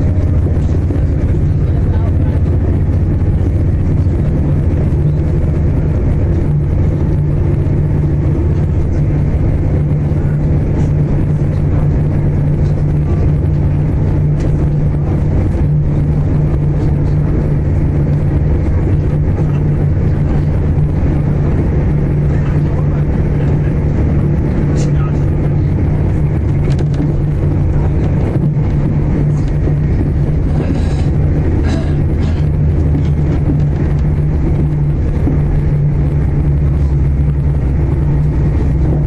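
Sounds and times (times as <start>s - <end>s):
diesel engine drone: 0.0s - 39.0s
wheel and track rumble: 0.0s - 39.0s.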